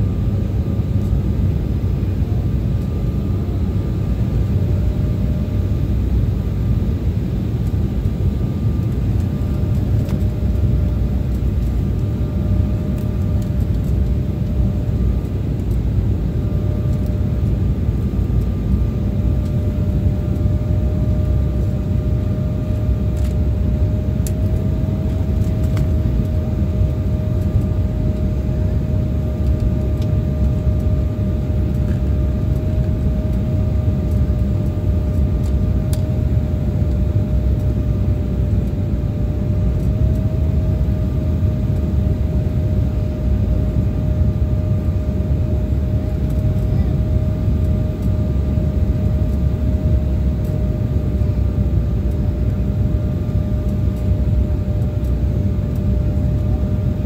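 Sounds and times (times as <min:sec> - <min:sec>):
airliner cabin engine rush: 0:00.0 - 0:57.0
faint steady whine: 0:00.0 - 0:57.0.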